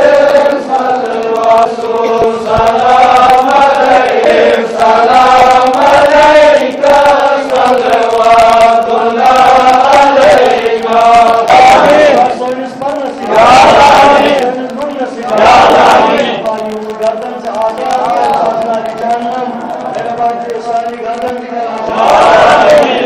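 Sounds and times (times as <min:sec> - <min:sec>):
men chanting a prayer: 0:00.0 - 0:23.0.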